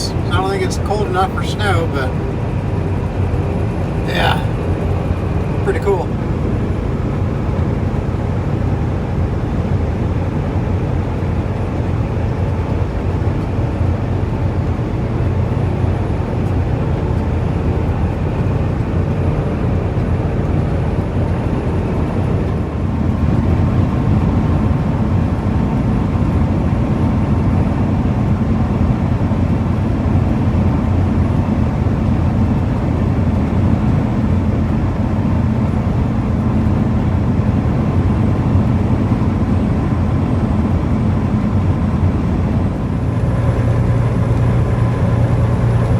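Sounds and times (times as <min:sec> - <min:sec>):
road noise: 0:00.0 - 0:45.9
truck diesel engine: 0:00.0 - 0:45.9.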